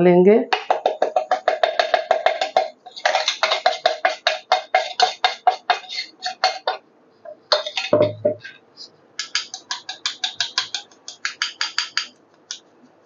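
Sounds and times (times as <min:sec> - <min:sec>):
metal bowl and sieve tapping: 0:00.5 - 0:08.6, 0:09.2 - 0:12.6.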